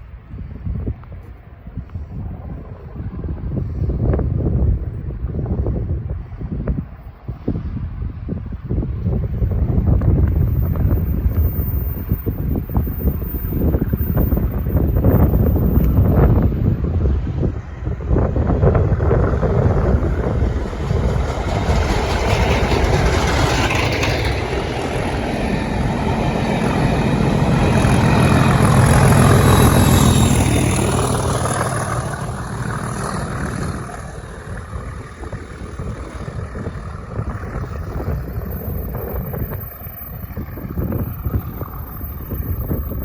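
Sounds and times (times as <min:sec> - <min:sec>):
train passing at speed: 0:00.0 - 0:43.0.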